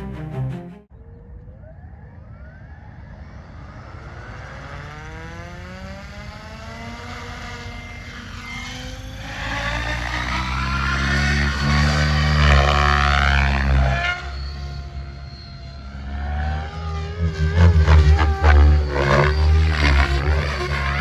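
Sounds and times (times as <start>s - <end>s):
helicopter rotor whine rising: 1.0s - 21.0s.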